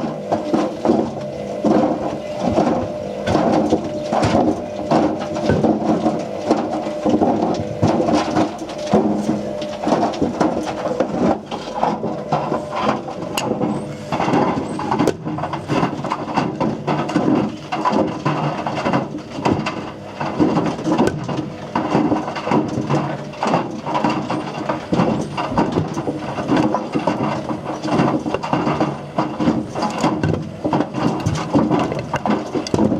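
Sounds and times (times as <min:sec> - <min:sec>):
objects rattling in drum: 0:00.0 - 0:32.9
washing machine drum turning: 0:00.0 - 0:32.9.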